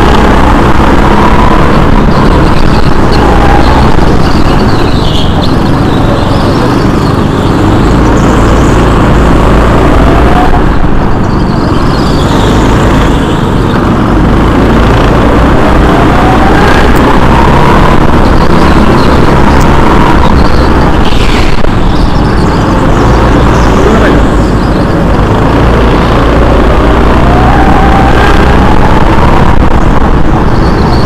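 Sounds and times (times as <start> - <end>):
go-kart engines running: 0.0 - 31.0.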